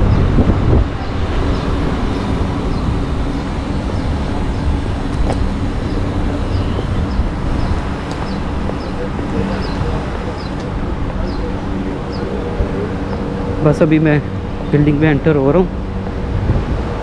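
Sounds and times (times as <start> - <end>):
faint hum: 0.0 - 17.0
street traffic rumble: 0.0 - 17.0.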